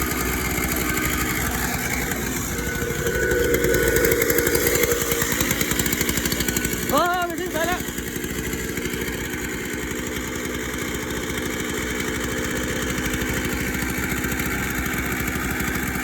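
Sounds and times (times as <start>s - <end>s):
engine idling with rapid pulsing: 0.0s - 16.0s.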